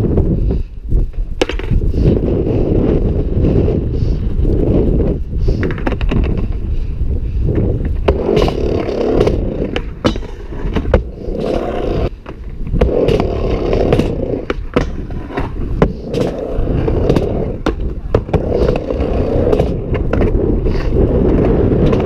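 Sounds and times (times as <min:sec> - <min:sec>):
skateboard wheels rolling on ramp: 0:00.0 - 0:22.0.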